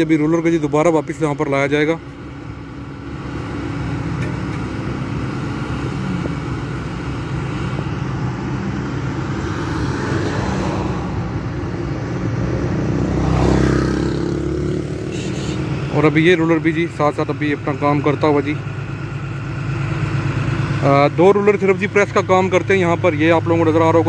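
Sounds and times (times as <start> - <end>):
road roller diesel engine: 0.0 - 24.0.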